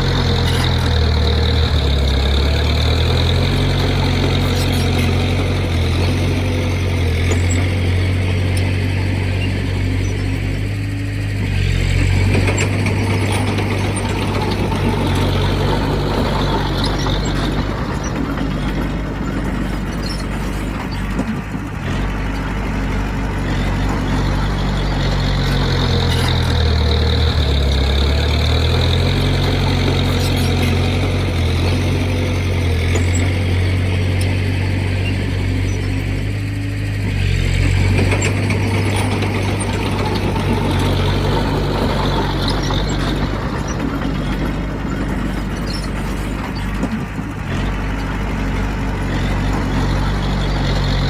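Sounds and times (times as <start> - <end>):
heavy diesel engine under load: 0.0 - 51.0.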